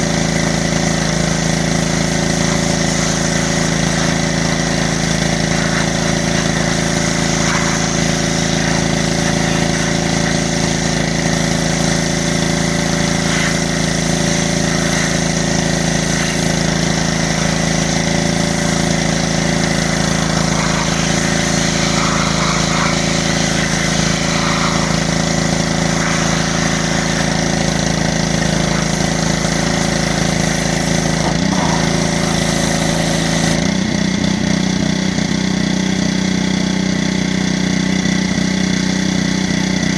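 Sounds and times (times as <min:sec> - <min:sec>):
pressure washer running: 0:00.0 - 0:39.9
hiss of water spray: 0:00.1 - 0:33.6.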